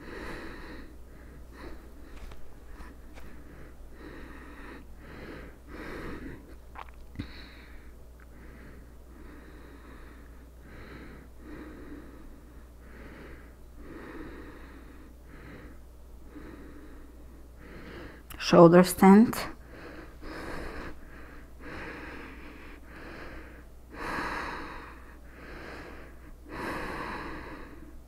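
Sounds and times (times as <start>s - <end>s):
woman breathing: 0.0s - 18.3s, 19.5s - 28.0s.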